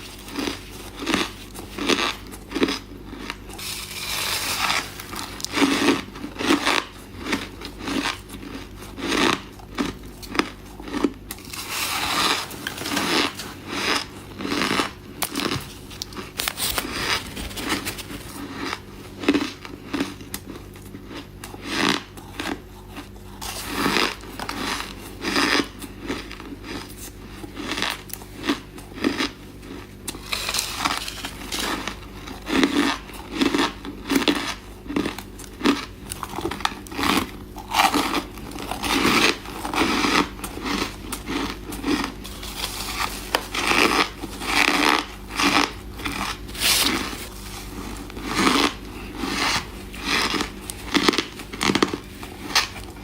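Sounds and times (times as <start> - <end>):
person chewing ice crunches: 0.0 - 53.0.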